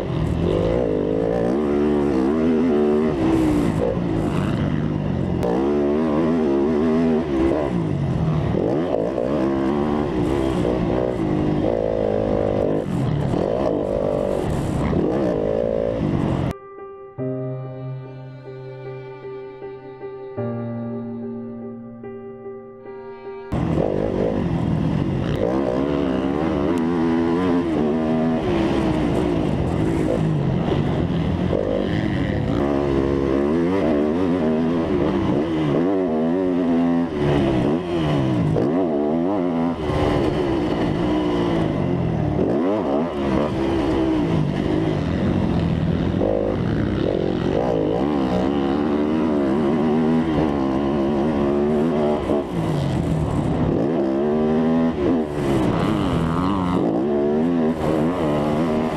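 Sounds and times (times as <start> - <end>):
dirt bike engines revving: 0.0 - 16.5, 23.5 - 58.9.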